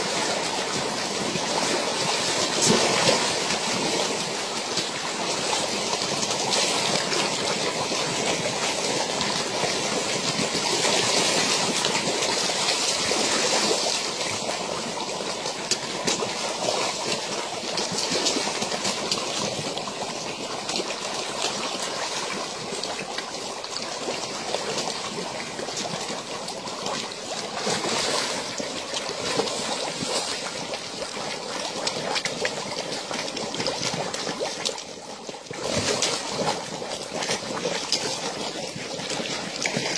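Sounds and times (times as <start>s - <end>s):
fish splashing and slurping: 0.0s - 39.9s.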